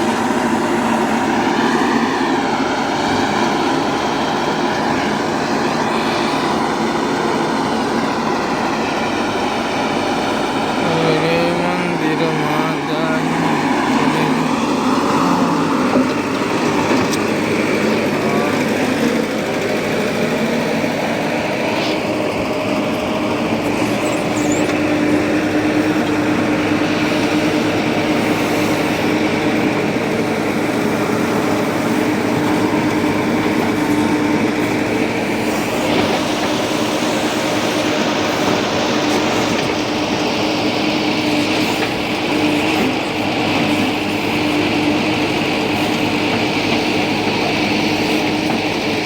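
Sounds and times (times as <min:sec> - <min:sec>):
steady hum: 0:00.0 - 0:48.7
heavy diesel machinery running: 0:00.0 - 0:49.0.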